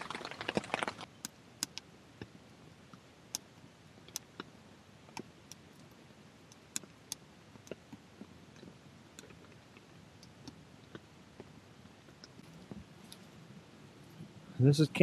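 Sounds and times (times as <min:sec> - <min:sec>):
wood fire crackling: 0:00.0 - 0:14.8
faint steady hiss: 0:00.0 - 0:15.0.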